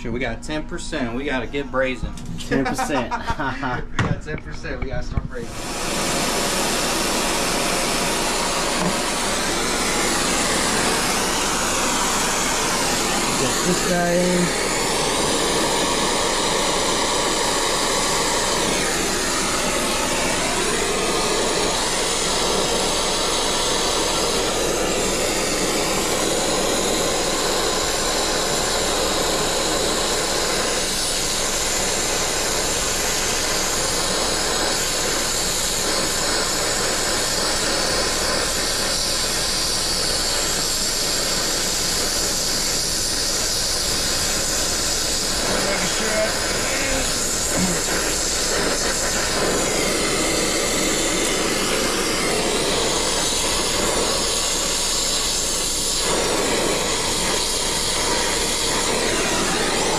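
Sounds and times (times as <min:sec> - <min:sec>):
torch flame hissing: 0:05.4 - 0:59.9.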